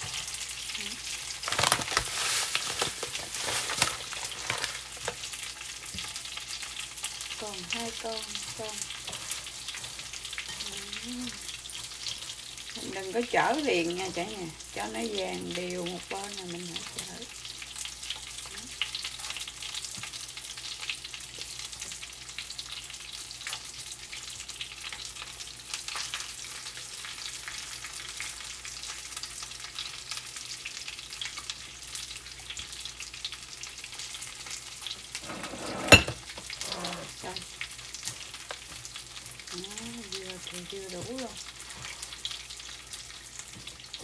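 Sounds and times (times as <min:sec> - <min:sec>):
oysters sizzling in oil: 0:00.0 - 0:44.0.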